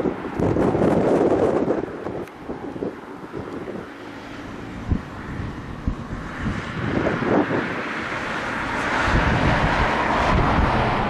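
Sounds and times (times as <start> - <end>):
jet engine noise: 0.0 - 11.0
wind buffeting microphone: 0.0 - 11.0.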